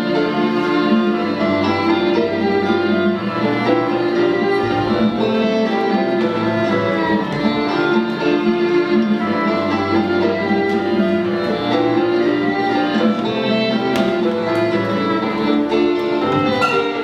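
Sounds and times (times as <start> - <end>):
guitar: 0.0 - 17.0
violin: 0.0 - 17.0.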